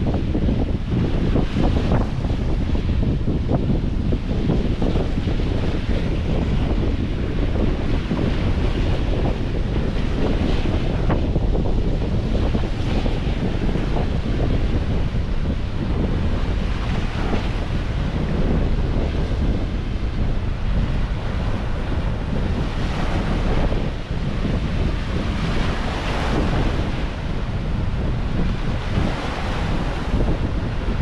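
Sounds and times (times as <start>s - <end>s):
ocean waves breaking: 0.0s - 31.0s
wind buffeting microphone: 0.0s - 31.0s.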